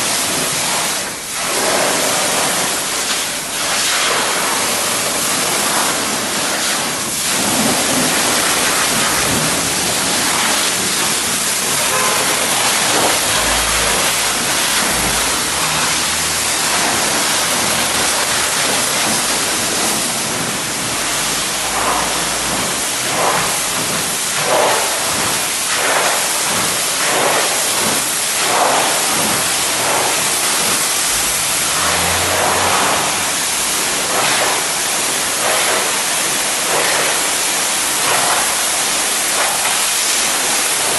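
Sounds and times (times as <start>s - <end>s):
water spray hissing: 0.1s - 40.9s.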